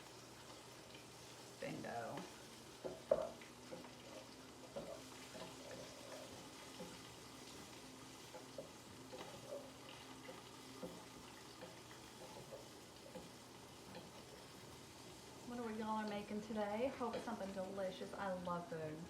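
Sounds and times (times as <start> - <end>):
meat sizzling in grease: 0.0 - 19.0.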